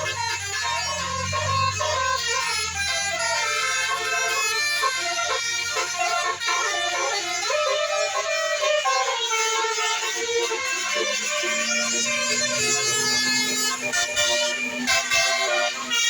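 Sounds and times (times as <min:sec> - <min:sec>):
bus air horns playing melody: 0:00.0 - 0:16.0
bus engine rumble: 0:00.0 - 0:16.0.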